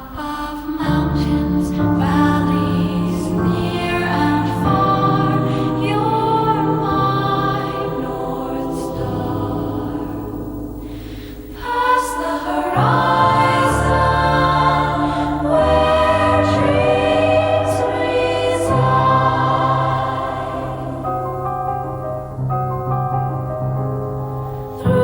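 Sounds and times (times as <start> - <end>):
electronic music with choir voices: 0.0 - 25.0.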